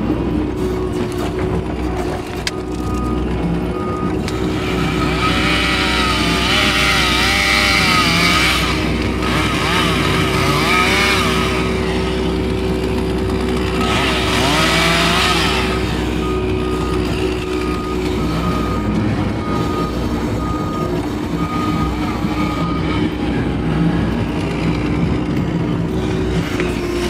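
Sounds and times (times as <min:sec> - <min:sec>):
diesel engine and hydraulics running: 0:00.0 - 0:27.0
chainsaw revving and cutting: 0:04.2 - 0:27.0.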